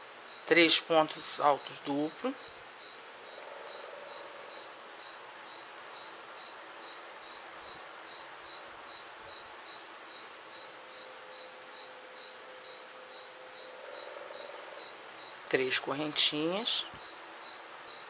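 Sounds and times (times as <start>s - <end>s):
insect chirping: 0.0s - 18.0s
insects trilling: 0.0s - 18.0s.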